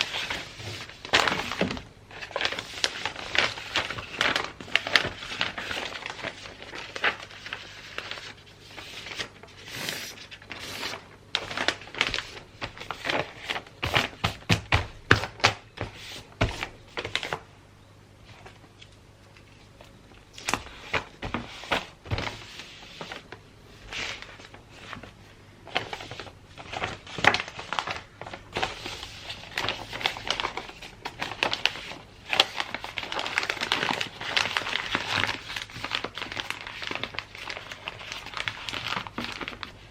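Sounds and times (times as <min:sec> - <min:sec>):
wrapping paper crinkling: 0:00.0 - 0:17.4, 0:19.7 - 0:39.9.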